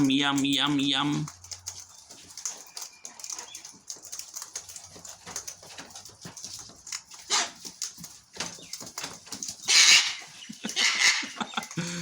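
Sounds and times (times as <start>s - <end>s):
birds pecking clicks: 0.0s - 12.0s.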